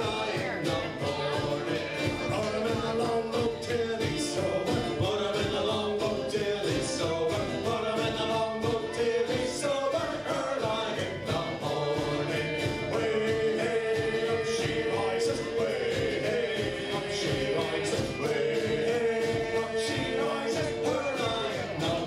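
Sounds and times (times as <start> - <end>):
fiddle: 0.0 - 22.0
guitars: 0.0 - 22.0
snare drum beat: 0.0 - 22.0
voices singing together: 0.0 - 22.0.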